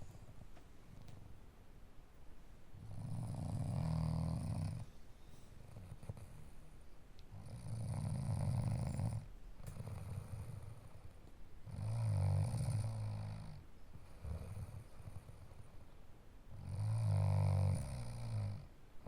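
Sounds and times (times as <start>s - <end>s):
quiet breathing: 2.8s - 19.0s.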